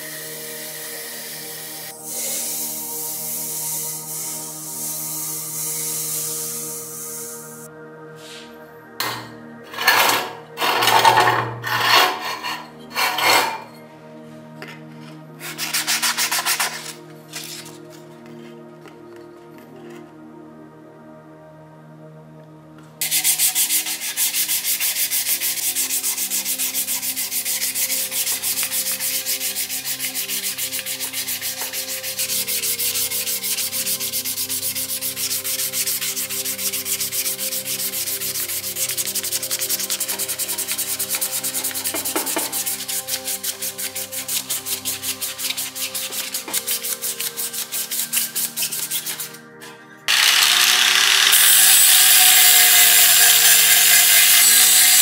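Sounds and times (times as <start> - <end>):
sandpaper rubbing on metal: 1.2 - 7.5, 9.1 - 13.8, 15.4 - 17.8, 23.0 - 49.4, 50.1 - 55.0.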